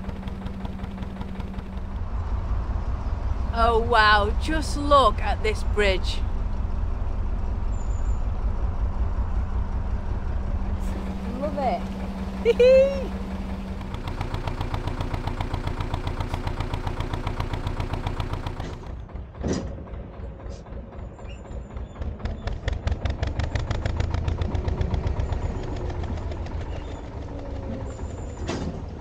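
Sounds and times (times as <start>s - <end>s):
diesel engine chugging: 0.0s - 29.0s.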